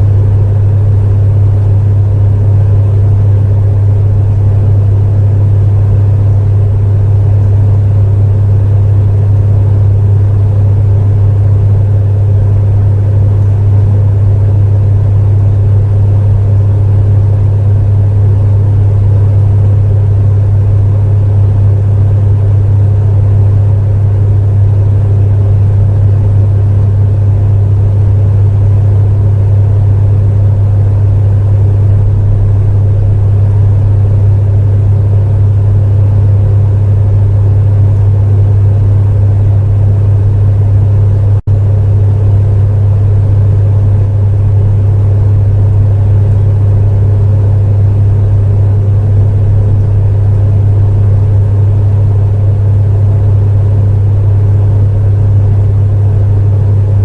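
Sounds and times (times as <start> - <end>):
fan rushing: 0.0 - 57.0
space heater humming: 0.0 - 57.0.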